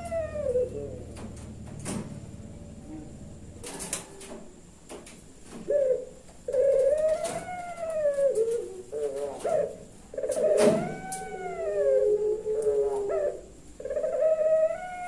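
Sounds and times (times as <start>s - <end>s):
dove cooing: 0.0s - 4.7s, 5.5s - 15.0s.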